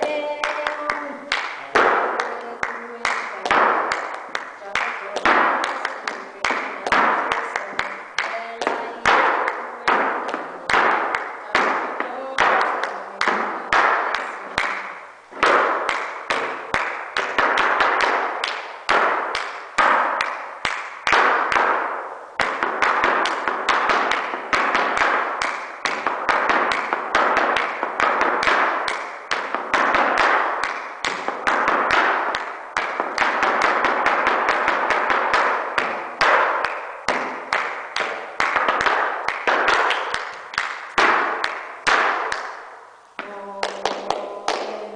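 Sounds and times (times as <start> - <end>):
flamenco shoes stamping on board: 0.0 - 42.6.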